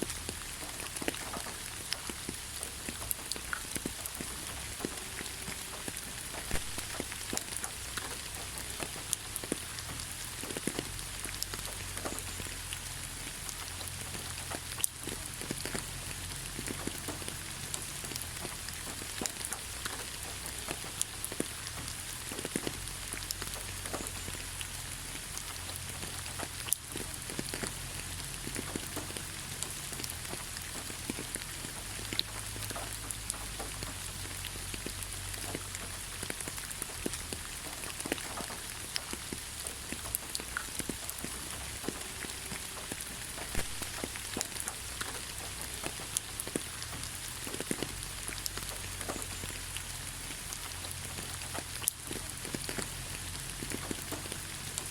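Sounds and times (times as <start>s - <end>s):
rain falling on leaves: 0.0s - 54.9s.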